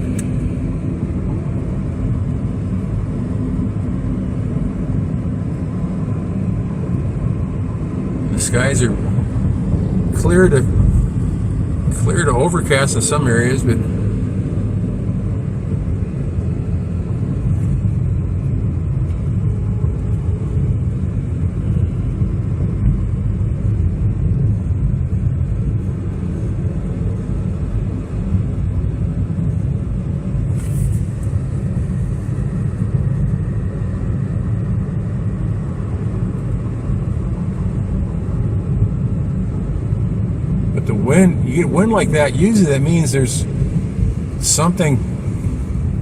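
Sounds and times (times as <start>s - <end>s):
vehicle rumbling on road: 0.0s - 46.0s.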